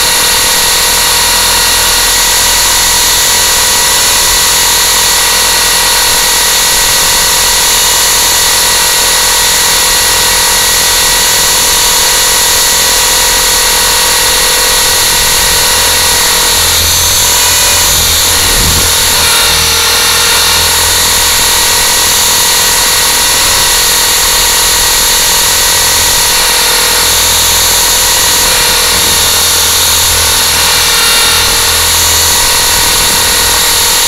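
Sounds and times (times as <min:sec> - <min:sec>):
drone motors whining: 0:00.0 - 0:34.0.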